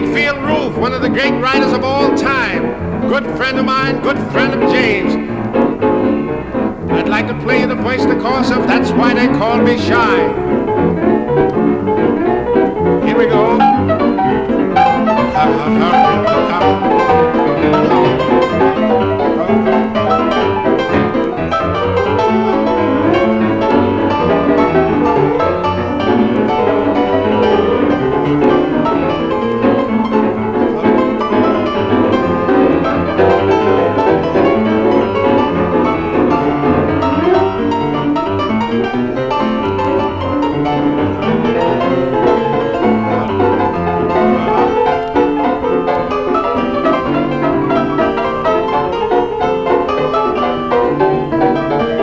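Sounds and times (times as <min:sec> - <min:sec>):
stride piano playing: 0:00.0 - 0:52.0.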